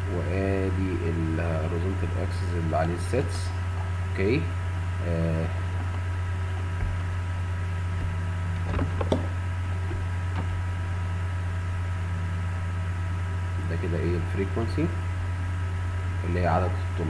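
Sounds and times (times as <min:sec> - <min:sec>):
low electrical hum with hiss: 0:00.0 - 0:17.0.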